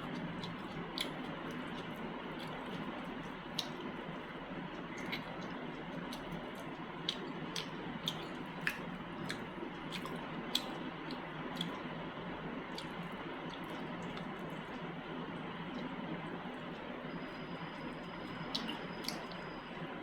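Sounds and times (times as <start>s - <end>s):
wet mouth clicks and smacks chewing: 0.0s - 12.0s, 12.6s - 19.8s.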